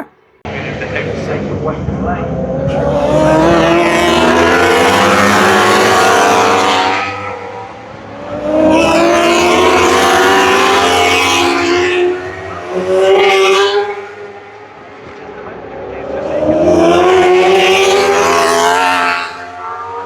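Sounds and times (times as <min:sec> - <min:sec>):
motorbikes passing at full throttle: 0:00.5 - 0:20.0.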